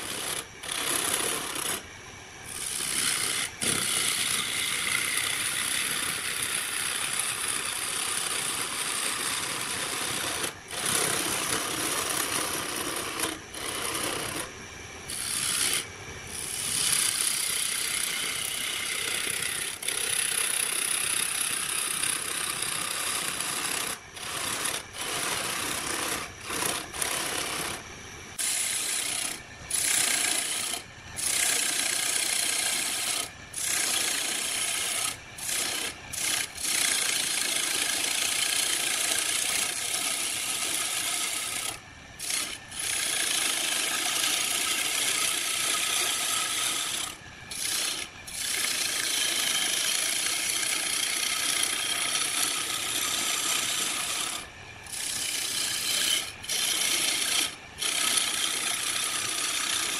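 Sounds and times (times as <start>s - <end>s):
chisel scraping wood on a lathe: 0.0s - 1.8s, 2.5s - 14.5s, 15.1s - 27.8s, 28.4s - 59.9s.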